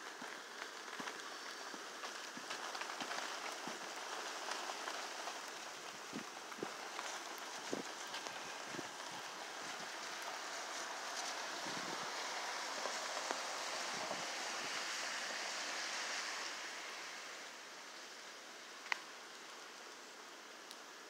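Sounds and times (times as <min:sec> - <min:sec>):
rain: 0:00.0 - 0:21.0
wind: 0:00.0 - 0:21.0.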